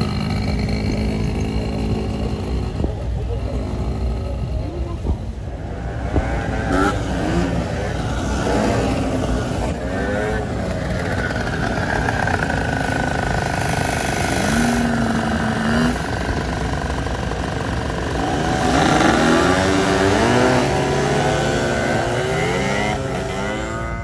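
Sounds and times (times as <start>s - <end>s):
small trike engines running: 0.0s - 24.0s.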